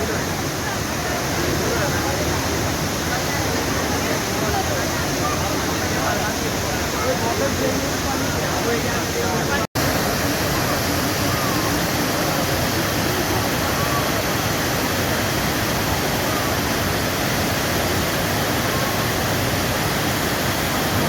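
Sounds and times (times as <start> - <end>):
faint voices: 0.0 - 21.0
waterfall rushing: 0.0 - 21.0.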